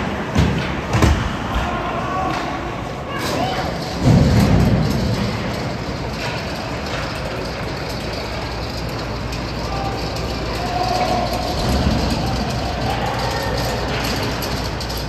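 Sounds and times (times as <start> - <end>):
low rumble of arena: 0.0 - 15.0.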